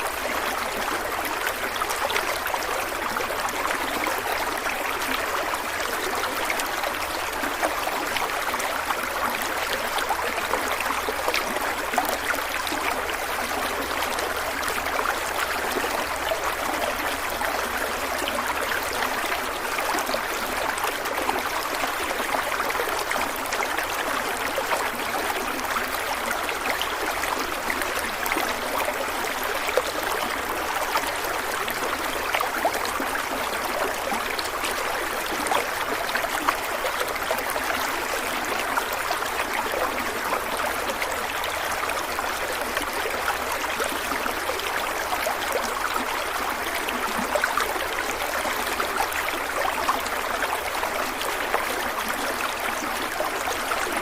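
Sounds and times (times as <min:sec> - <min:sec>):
stream of water flowing: 0:00.0 - 0:54.0.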